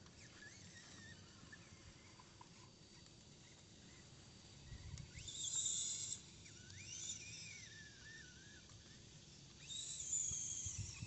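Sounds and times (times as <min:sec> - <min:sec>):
small electric motor and gears whining: 0:00.0 - 0:11.0.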